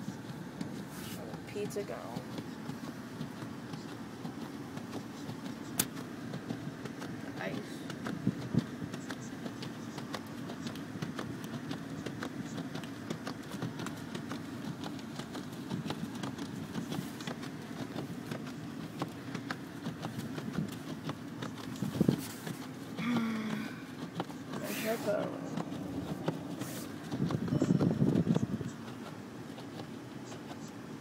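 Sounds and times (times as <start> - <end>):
car engine and tyres rumbling: 0.0 - 31.0
faint clicks and crackles: 0.0 - 31.0.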